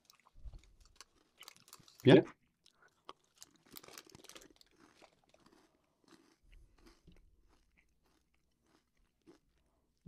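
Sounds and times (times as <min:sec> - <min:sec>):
crunching and chewing snacks: 0:00.0 - 0:10.0.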